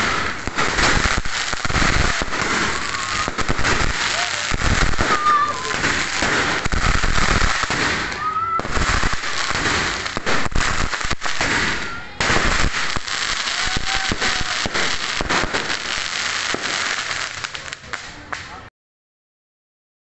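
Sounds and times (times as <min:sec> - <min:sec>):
rising firework whistle: 0:00.0 - 0:16.7
fireworks crackling and popping: 0:00.0 - 0:18.7.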